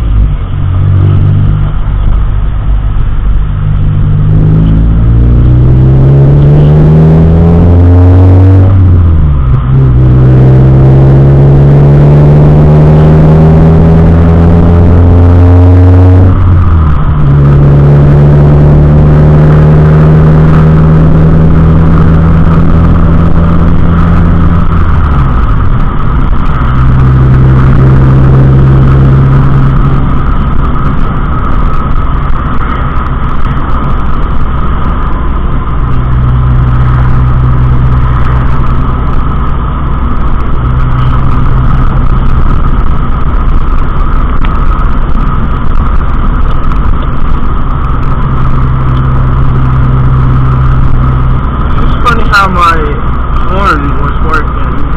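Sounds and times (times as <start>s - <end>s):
car engine driving: 0.0s - 54.9s
road noise: 0.0s - 54.9s.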